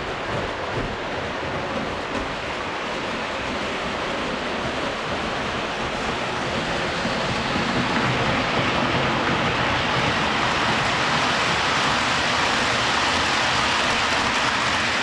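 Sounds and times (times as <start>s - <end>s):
model train rumbling on track: 0.0s - 15.0s.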